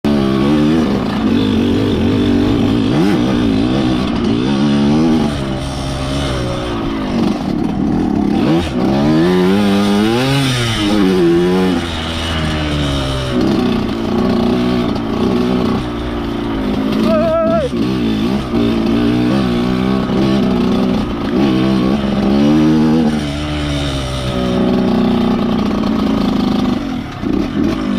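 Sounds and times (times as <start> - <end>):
motorcycle engine revving: 0.1 - 27.9.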